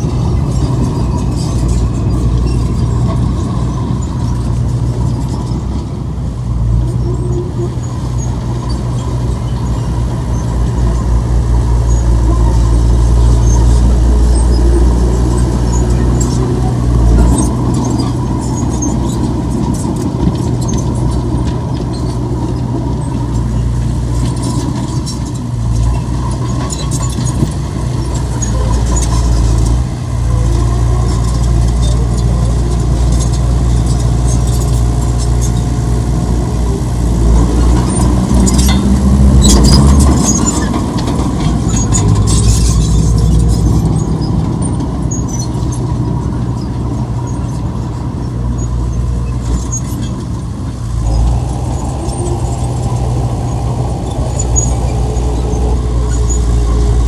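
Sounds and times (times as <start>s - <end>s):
heavy diesel engine under load: 0.0s - 57.0s
machinery squeaks and clanks: 0.0s - 57.0s.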